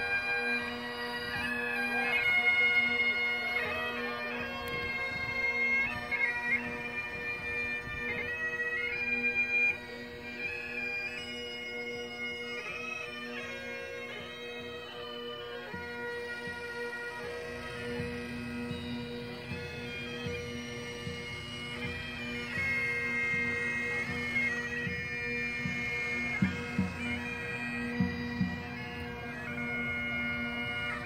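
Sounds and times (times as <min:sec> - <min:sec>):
bagpipes playing a tune: 0:00.0 - 0:31.0.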